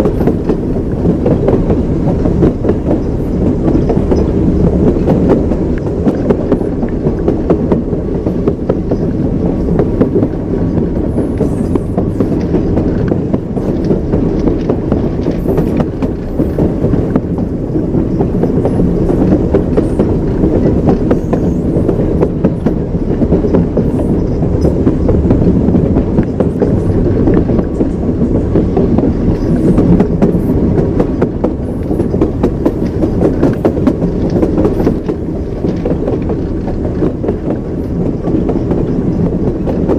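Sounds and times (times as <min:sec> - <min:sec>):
train low rumble: 0:00.0 - 0:39.9
train wheels clattering over rails: 0:00.0 - 0:39.9.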